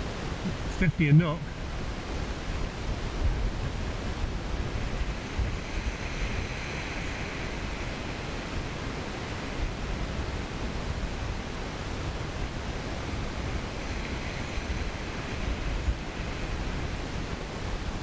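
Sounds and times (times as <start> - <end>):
wind on microphone: 0.0 - 18.0
small waves on shingle beach: 1.0 - 18.0.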